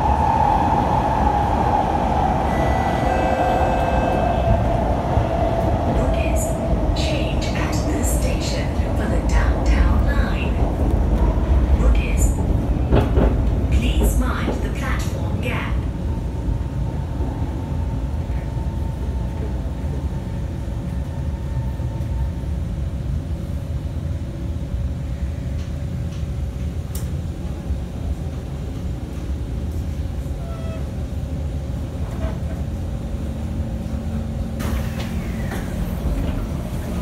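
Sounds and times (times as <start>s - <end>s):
train cabin low rumble: 0.0s - 37.0s.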